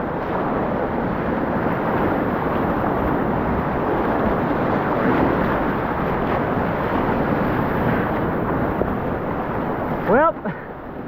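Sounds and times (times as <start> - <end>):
whitewater rapids roaring: 0.0 - 10.8.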